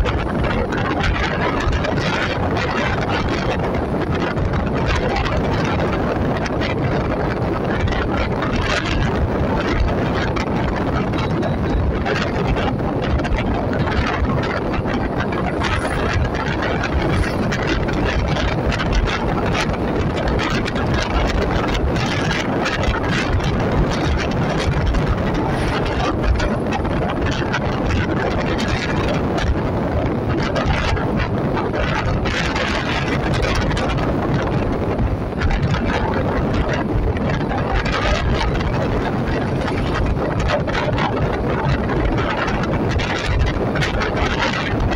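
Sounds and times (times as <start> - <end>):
road and engine noise: 0.0 - 44.9
wind buffeting microphone: 0.0 - 44.9.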